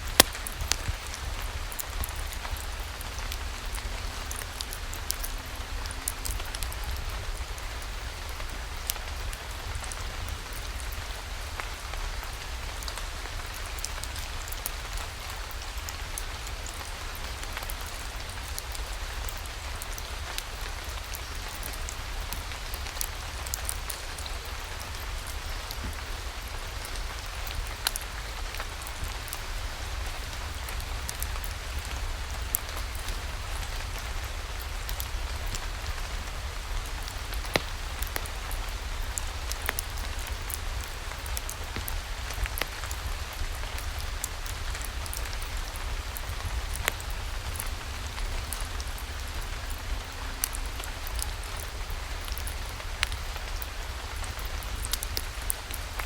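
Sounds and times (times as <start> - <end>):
sharp ticks of raindrops: 0.0 - 56.0
steady rain hiss: 0.0 - 56.0.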